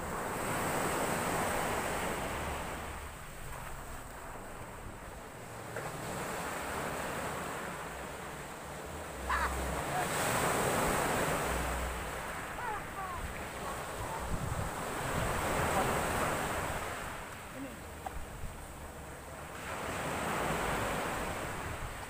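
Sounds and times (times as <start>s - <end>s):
sea waves breaking: 0.0s - 22.0s
wind buffeting microphone: 0.0s - 22.0s.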